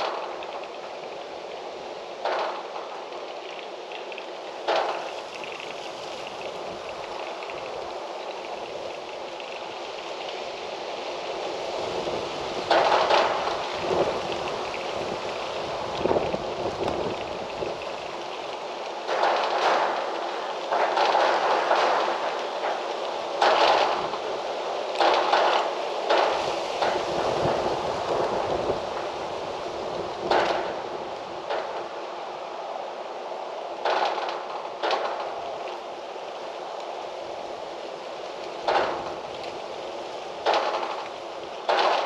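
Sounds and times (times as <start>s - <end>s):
gusty wind rustling trees: 0.0s - 42.0s.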